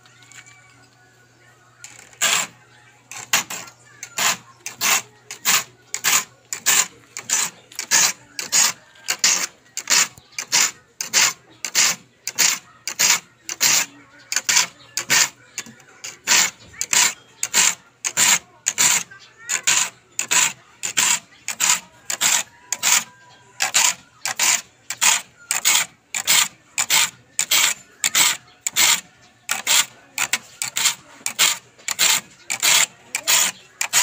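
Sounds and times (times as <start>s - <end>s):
file rasping on saw teeth: 1.8s - 34.0s.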